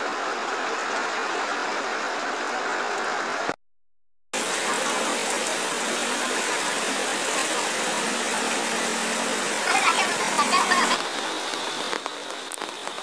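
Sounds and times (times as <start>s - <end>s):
floodwater rushing across road: 0.0s - 3.6s, 4.4s - 13.0s
rain falling: 0.0s - 3.6s, 4.4s - 13.0s.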